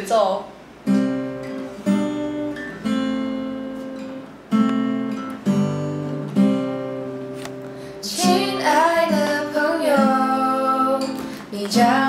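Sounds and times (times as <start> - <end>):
acoustic guitar chords ringing: 0.6 - 12.0.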